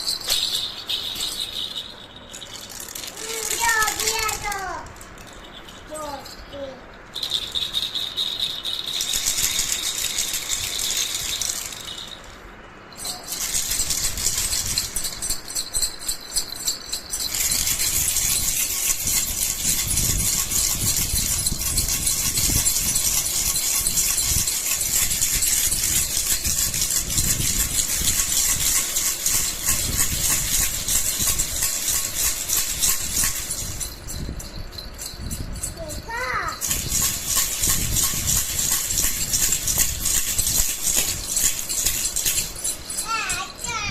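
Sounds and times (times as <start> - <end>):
baby rattle shaken: 0.0 - 43.9.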